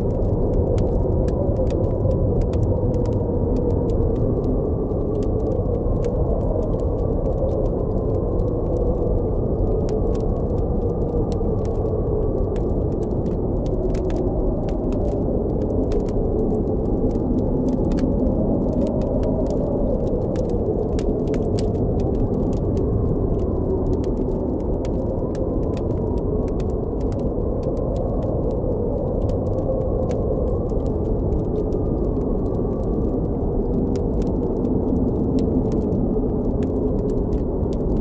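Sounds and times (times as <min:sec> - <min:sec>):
campfire crackling: 0:00.0 - 0:38.0
howling blizzard wind: 0:00.0 - 0:38.0.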